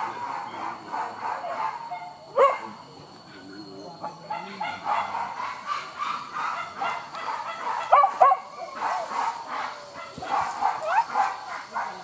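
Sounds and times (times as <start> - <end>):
dogs barking and yelping: 0.0 - 2.8, 3.9 - 12.0.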